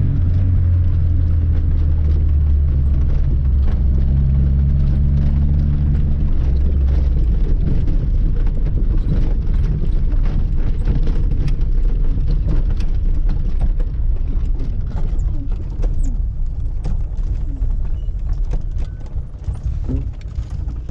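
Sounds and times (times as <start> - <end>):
car engine: 0.0 - 20.9
rumble with rattles and knocks: 0.0 - 20.9.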